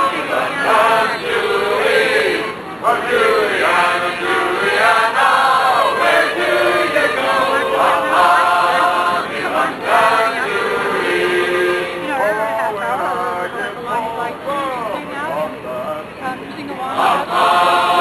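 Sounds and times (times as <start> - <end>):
group singing in chorus: 0.0 - 14.5, 16.9 - 18.0.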